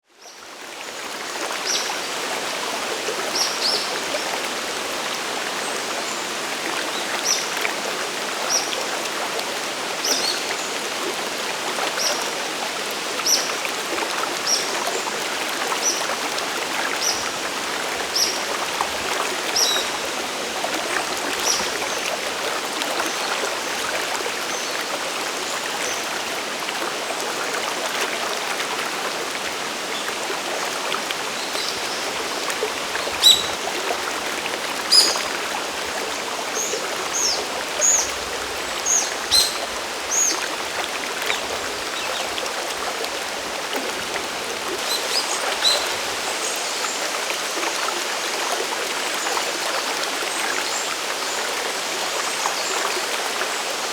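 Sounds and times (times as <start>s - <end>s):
waterfall and stream rushing: 0.2s - 53.9s.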